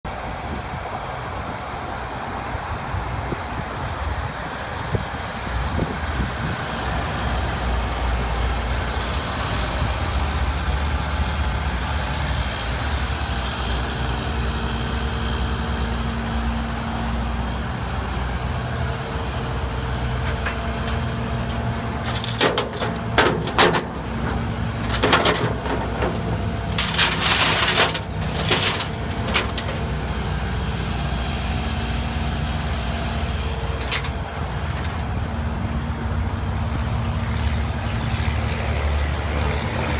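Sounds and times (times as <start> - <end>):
diesel engine rumbling: 0.1 - 39.9.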